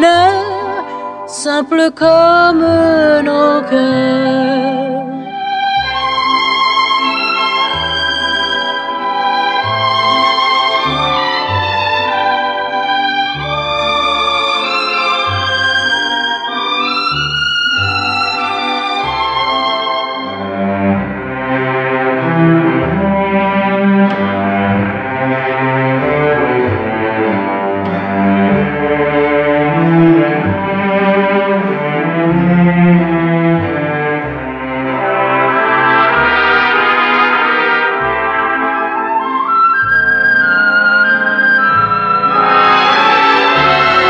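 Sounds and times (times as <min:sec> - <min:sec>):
strings: 0:00.0 - 0:44.0
brass melody: 0:02.5 - 0:44.0.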